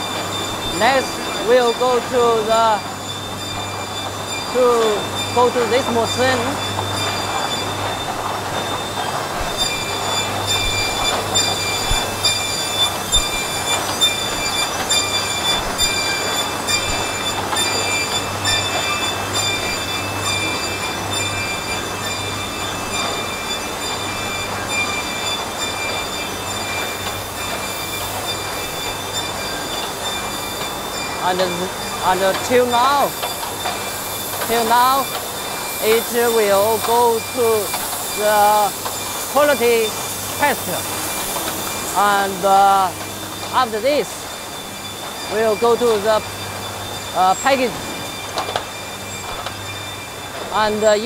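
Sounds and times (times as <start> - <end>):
production machinery humming: 0.0 - 51.0
pulsing high whining tones: 0.0 - 51.0.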